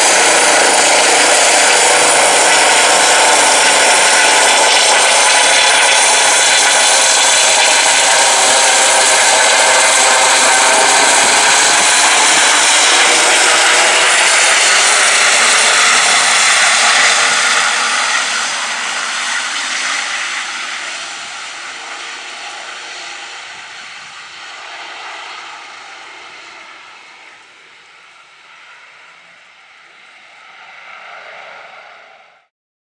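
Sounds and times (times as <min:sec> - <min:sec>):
helicopter flying overhead: 0:00.0 - 0:32.5
high turbine whine: 0:00.0 - 0:32.5.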